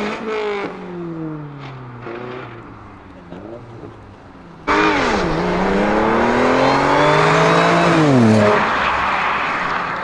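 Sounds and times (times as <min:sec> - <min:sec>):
car engine accelerating hard: 0:01.6 - 0:09.7.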